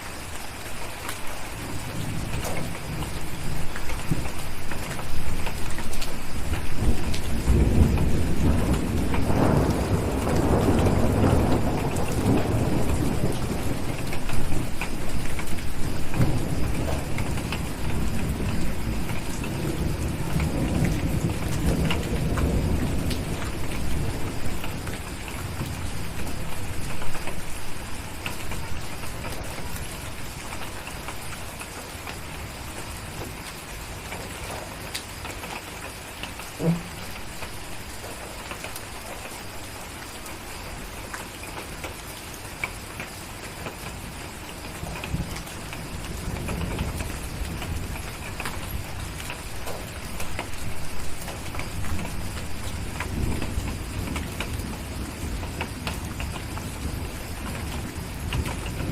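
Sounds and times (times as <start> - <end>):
rain pattering on a window: 0.0 - 58.9
distant thunder rumbling: 1.3 - 34.8, 36.4 - 39.1, 43.9 - 58.9.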